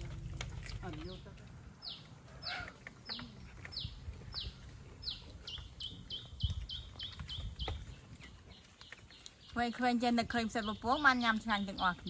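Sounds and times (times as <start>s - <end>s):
bird chirping: 0.8s - 12.0s.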